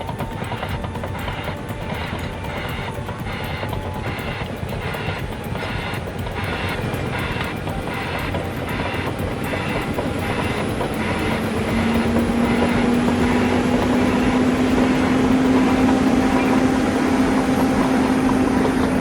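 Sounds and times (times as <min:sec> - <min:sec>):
heavy vehicle engine drone: 0:00.0 - 0:19.0.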